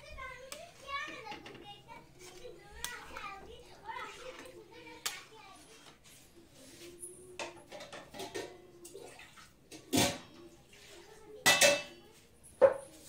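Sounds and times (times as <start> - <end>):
kitchen utensils and dishes clattering: 0.0 - 13.0.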